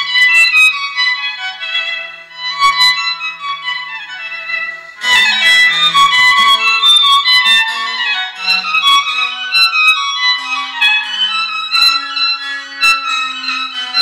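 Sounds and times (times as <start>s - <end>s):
music through small loudspeakers: 0.0s - 14.0s.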